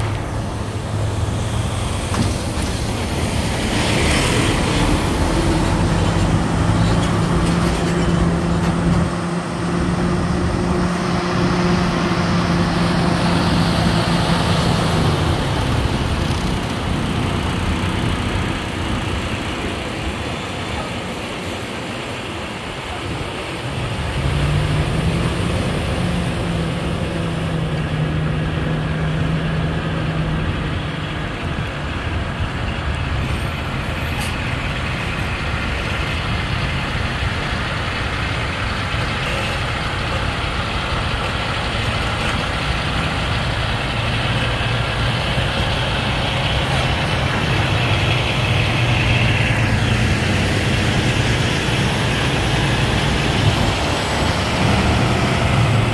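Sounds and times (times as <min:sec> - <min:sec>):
diesel trucks passing: 0:00.0 - 0:55.9
tyre and road noise: 0:00.0 - 0:55.9.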